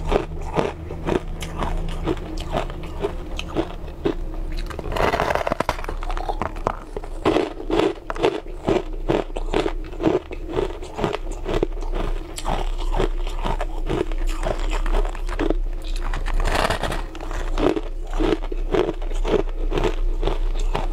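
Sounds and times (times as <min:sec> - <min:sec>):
crushed ice being chewed: 0:00.0 - 0:20.9.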